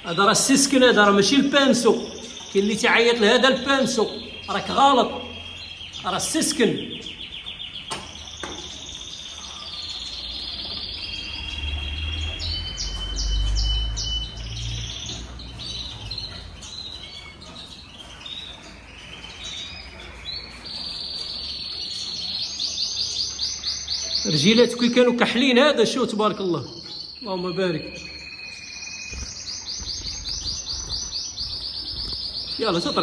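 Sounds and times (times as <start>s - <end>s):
songbirds chirping and singing: 0.0s - 33.0s.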